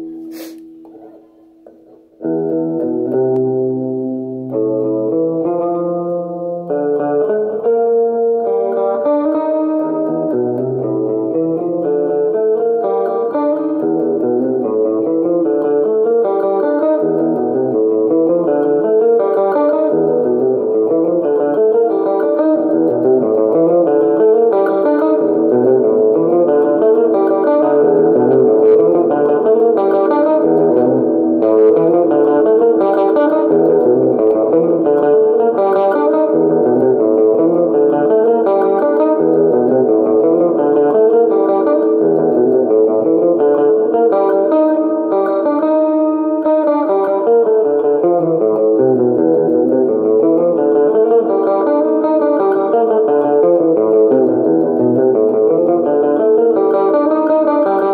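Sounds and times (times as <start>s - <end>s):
electric guitar riff: 0.0s - 57.9s.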